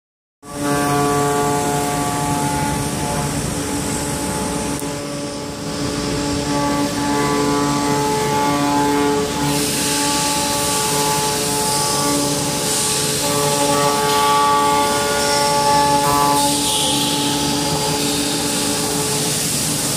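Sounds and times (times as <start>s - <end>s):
cnc router machine whine: 0.4s - 19.9s
loud hiss: 0.5s - 19.9s.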